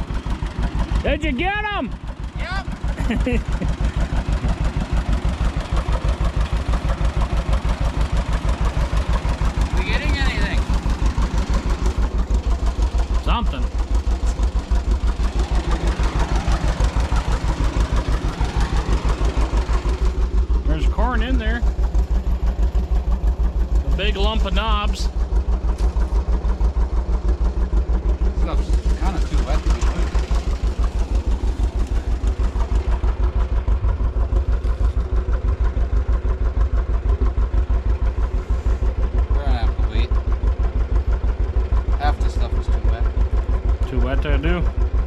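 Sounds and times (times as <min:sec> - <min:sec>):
tractor engine running under load: 0:00.0 - 0:45.0.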